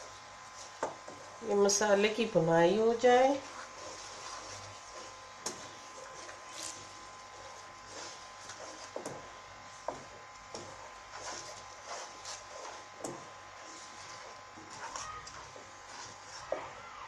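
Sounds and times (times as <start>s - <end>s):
paste frying: 0.0s - 17.0s
wooden spoon stirring paste: 0.0s - 17.0s.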